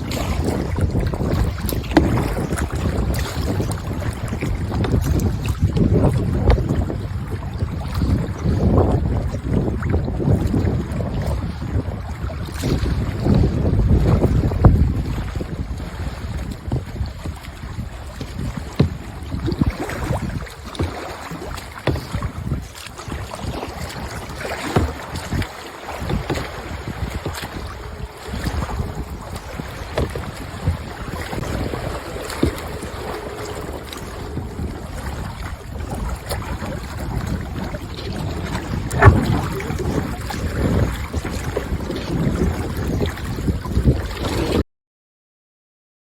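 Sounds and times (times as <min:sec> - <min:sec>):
paddle splashes: 0:00.0 - 0:44.6
water slapping against hull: 0:00.0 - 0:44.6
wind rumbling on microphone: 0:00.0 - 0:44.6.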